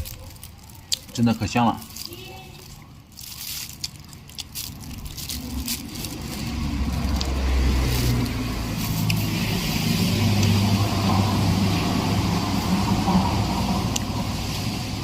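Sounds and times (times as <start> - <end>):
vehicle engine rumbling low: 0.0 - 15.0.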